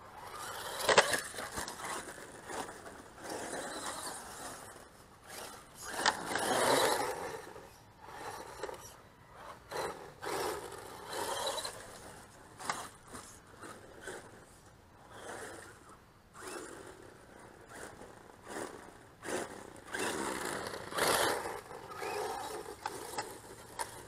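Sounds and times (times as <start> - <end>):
toy truck tyres scrabbling on dirt: 0.0 - 24.0.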